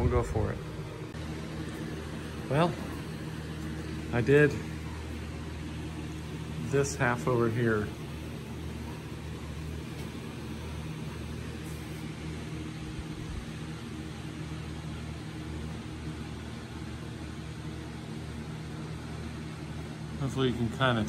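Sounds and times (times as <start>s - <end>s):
constant hiss: 0.0s - 21.0s
low even hum: 0.0s - 21.0s.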